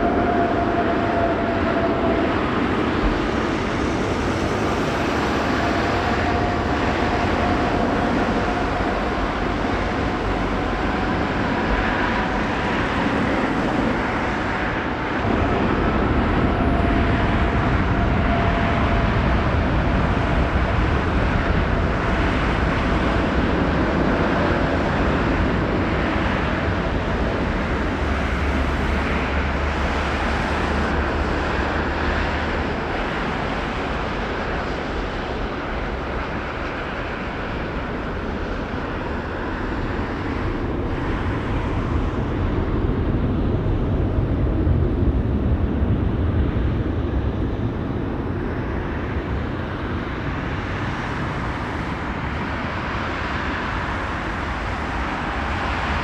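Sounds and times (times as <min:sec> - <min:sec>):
jet engine rumble: 0:00.0 - 0:56.0.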